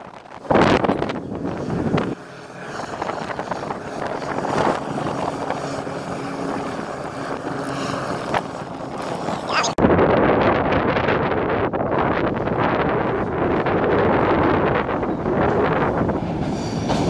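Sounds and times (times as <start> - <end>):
hovercraft drone: 0.0 - 17.0
wind buffeting microphone: 0.0 - 17.0.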